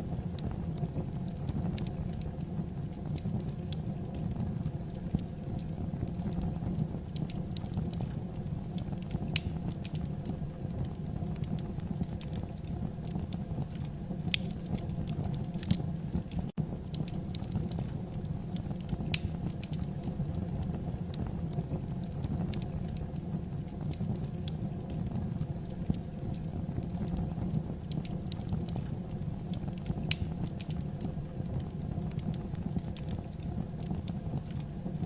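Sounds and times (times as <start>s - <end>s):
fire flames rumbling: 0.0s - 35.0s
logs crackling and popping: 0.0s - 35.0s.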